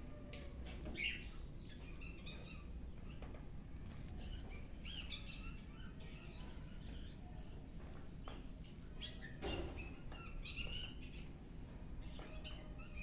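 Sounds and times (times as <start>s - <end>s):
low background hum: 0.0s - 13.0s
small birds chirping: 0.0s - 13.0s.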